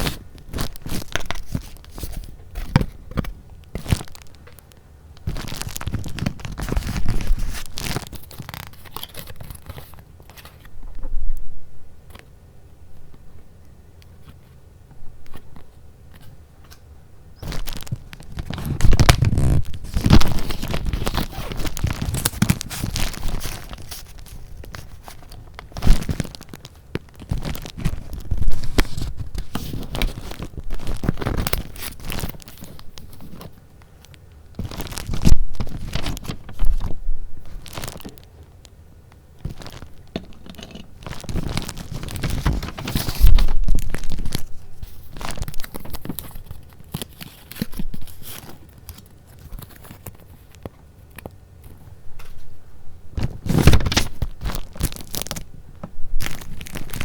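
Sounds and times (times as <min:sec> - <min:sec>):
paper rustling and crinkling: 0:00.0 - 0:10.8, 0:17.4 - 0:38.5, 0:39.4 - 0:52.6, 0:53.2 - 0:57.0.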